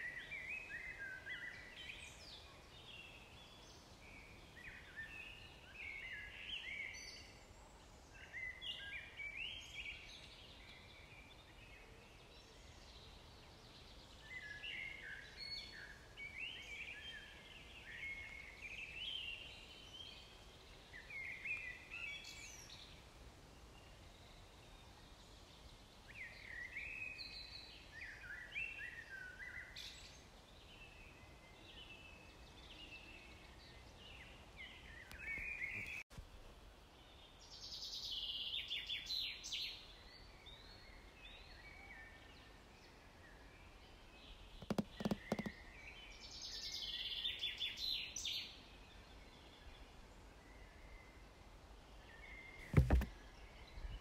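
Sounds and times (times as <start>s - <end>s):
faint outdoor background noise: 0.0s - 54.0s
songbird singing: 0.0s - 54.0s.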